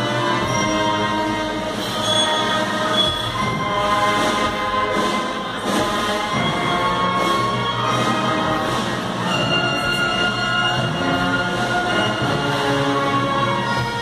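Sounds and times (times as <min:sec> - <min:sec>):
band playing funeral march: 0:00.0 - 0:14.0.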